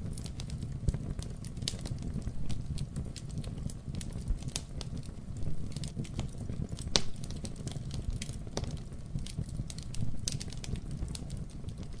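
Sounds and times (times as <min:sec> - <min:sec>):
flames low rumble: 0:00.0 - 0:12.0
wood fire crackling and popping: 0:00.0 - 0:12.0.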